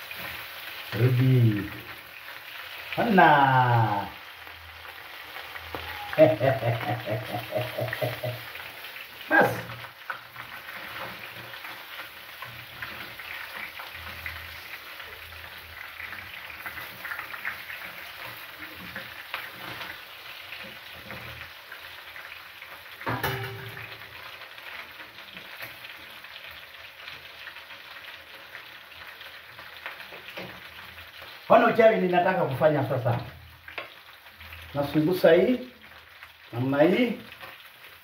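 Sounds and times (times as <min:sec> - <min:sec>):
food sizzling in frying pan: 0:00.0 - 0:38.0.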